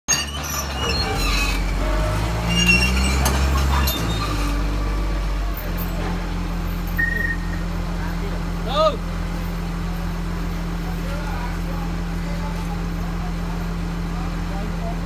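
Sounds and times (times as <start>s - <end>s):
bulldozer diesel engine under load: 0.1s - 15.0s.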